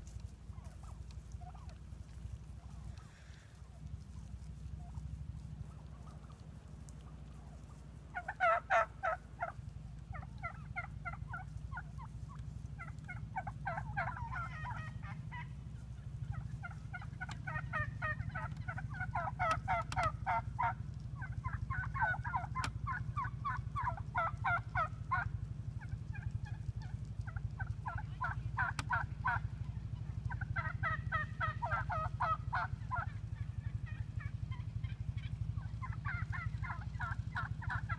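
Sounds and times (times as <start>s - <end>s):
wild turkeys calling: 0.0s - 37.9s.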